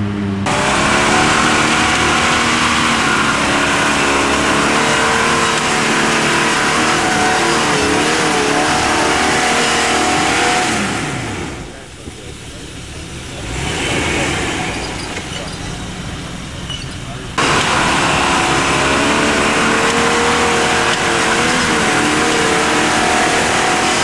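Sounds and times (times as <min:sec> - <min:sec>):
engine revving hard: 0:00.0 - 0:24.0
wheels spinning in dirt: 0:00.0 - 0:24.0.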